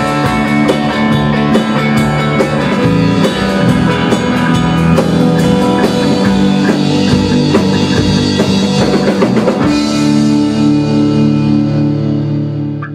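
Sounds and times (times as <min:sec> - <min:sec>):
rock band playing: 0:00.0 - 0:12.9.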